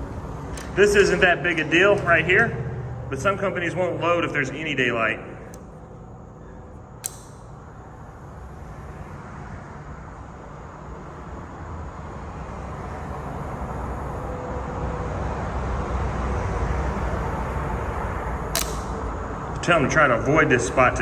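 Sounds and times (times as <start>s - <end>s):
vehicle low rumble: 0.0s - 21.0s.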